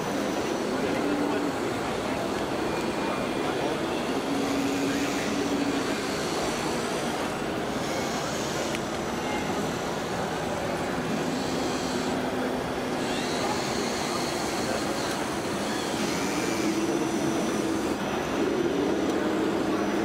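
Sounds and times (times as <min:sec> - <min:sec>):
electric motor and gear whine: 0:00.0 - 0:20.0.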